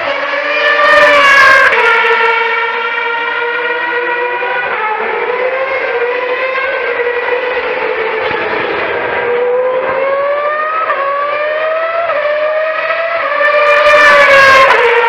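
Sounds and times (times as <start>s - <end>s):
racing car engine accelerating: 0.0s - 15.0s.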